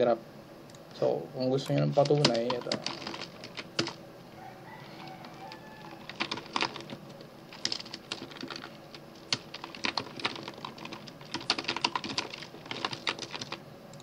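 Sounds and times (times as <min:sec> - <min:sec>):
computer keyboard typing: 0:01.7 - 0:04.0, 0:04.8 - 0:14.0.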